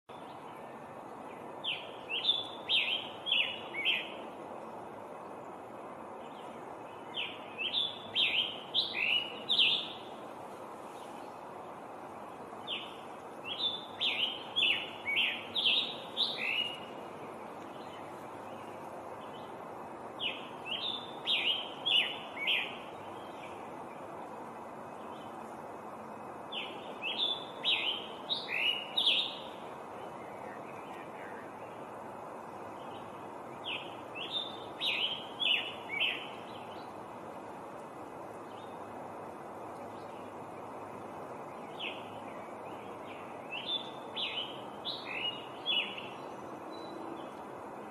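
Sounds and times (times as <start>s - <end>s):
steady background hiss: 0.1s - 47.9s.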